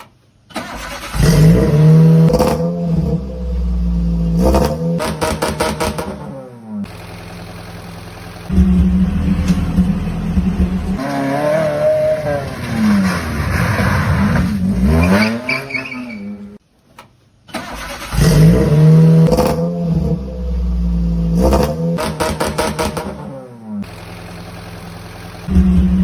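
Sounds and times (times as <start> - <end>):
car engine idling and revving: 0.6 - 16.6, 17.7 - 26.0.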